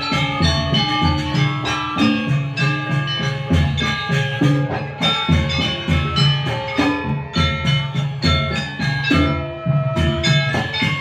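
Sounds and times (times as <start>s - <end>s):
drum strokes in steady rhythm: 0.0s - 11.0s
ringing struck metal tones: 0.0s - 11.0s.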